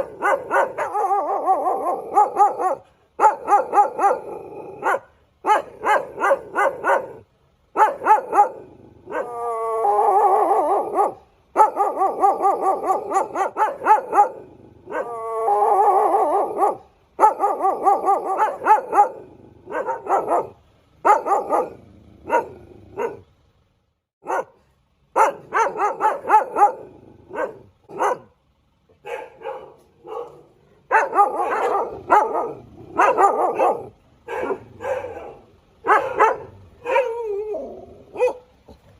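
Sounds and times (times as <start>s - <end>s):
dog drawn-out cries: 0.0s - 7.2s, 7.8s - 23.2s, 25.2s - 28.3s, 29.0s - 38.6s
dog barking: 0.0s - 9.4s, 10.3s - 15.1s, 15.8s - 23.3s, 24.2s - 28.4s, 29.0s - 38.6s.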